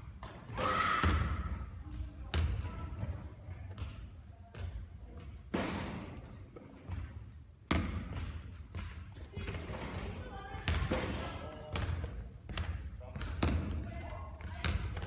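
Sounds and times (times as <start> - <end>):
basketball bouncing on court: 0.0 - 6.2, 6.8 - 15.0.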